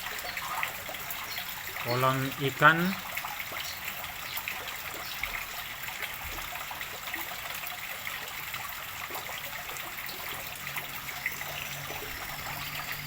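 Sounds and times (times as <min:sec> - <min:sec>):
water trickling into a pond: 0:00.0 - 0:13.0.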